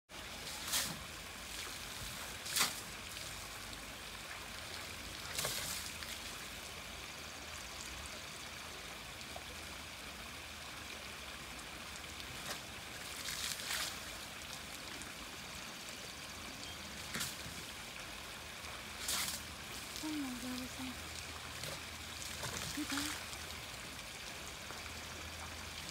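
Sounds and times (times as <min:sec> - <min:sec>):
water splashes: 0:00.1 - 0:25.9
water trickling: 0:00.1 - 0:25.9.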